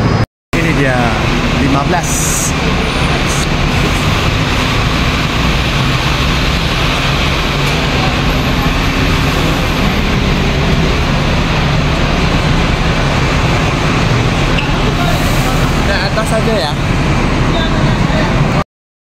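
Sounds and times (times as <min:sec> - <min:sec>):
diesel bus engine idling: 0:00.6 - 0:18.6.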